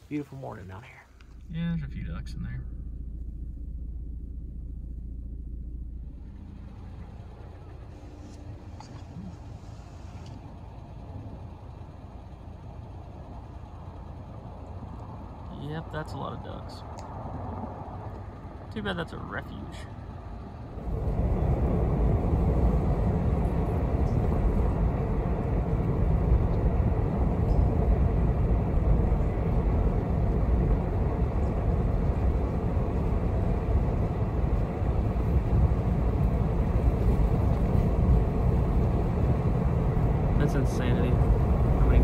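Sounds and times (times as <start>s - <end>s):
moving vehicle road and engine noise: 0.0s - 42.0s.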